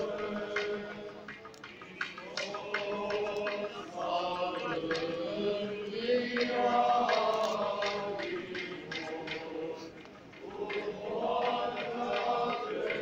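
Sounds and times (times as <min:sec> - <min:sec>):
men chanting a hymn: 0:00.0 - 0:13.0.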